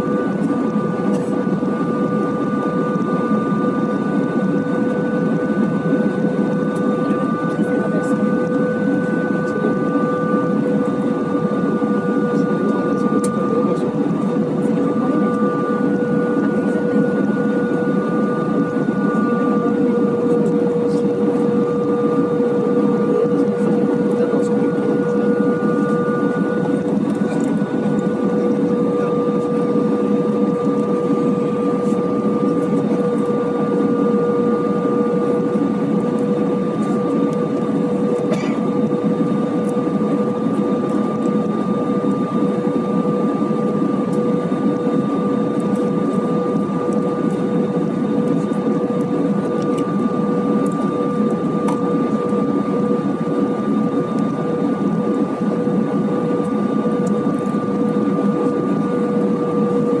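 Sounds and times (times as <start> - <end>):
airplane cabin drone: 0.0 - 60.0
constant humming tones: 0.0 - 60.0.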